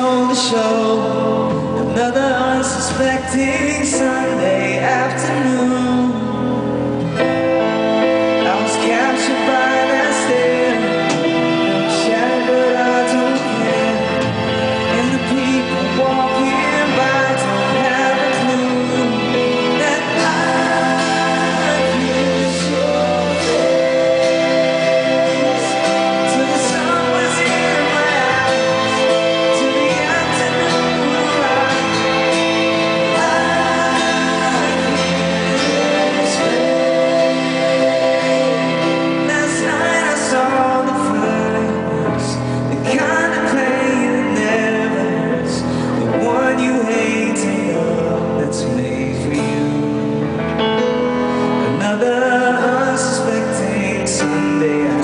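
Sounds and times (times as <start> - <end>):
men singing harmony: 0.0 - 6.6, 7.2 - 50.1, 51.4 - 55.0
pop backing music over pa: 0.0 - 55.0.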